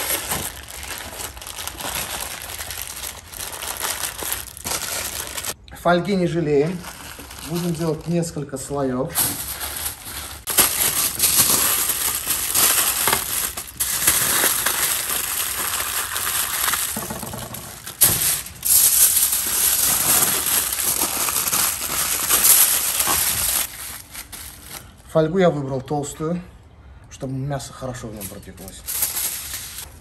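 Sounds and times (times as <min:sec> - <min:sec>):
aluminium foil crinkling: 0:00.0 - 0:05.6, 0:06.7 - 0:08.4, 0:09.2 - 0:25.0, 0:28.2 - 0:30.0.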